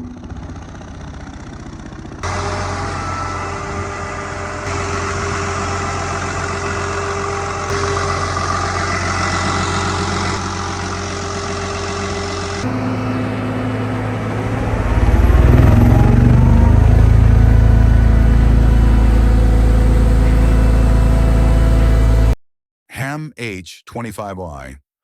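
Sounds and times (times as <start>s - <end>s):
diesel engine running: 0.0s - 22.4s.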